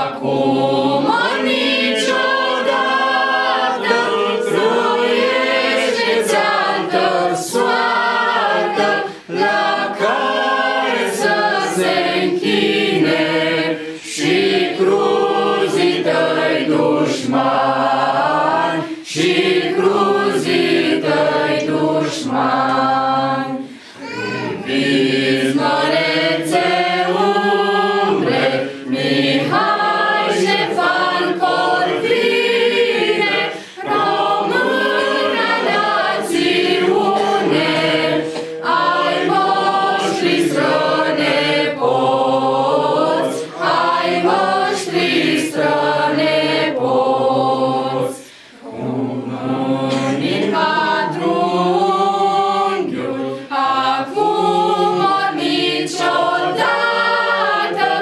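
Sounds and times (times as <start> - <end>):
women's choir singing unaccompanied: 0.0 - 58.0.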